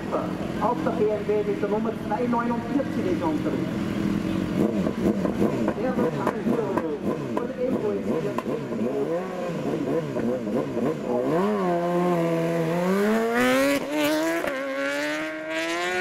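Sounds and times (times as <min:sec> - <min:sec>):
racing motorcycle engine revving: 0:00.0 - 0:16.0.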